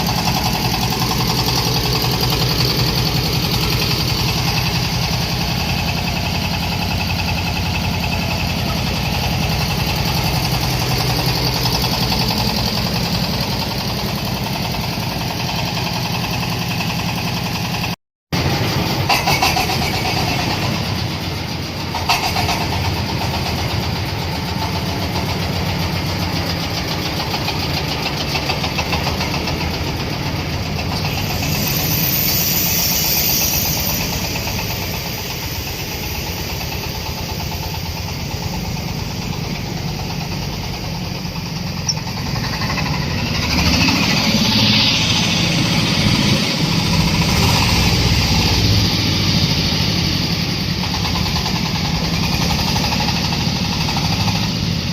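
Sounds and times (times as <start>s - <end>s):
engine driving corn sheller: 0.0s - 54.9s.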